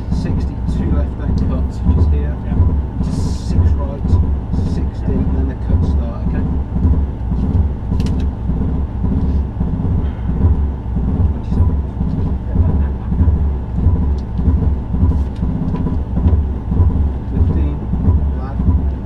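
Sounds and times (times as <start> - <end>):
rally car engine rumble: 0.0 - 19.0
road noise: 0.0 - 19.0.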